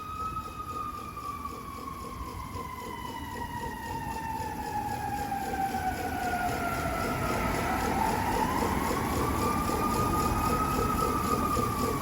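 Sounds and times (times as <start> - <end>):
fire truck siren wailing: 0.0 - 12.0
low rumble of fire truck: 0.0 - 12.0.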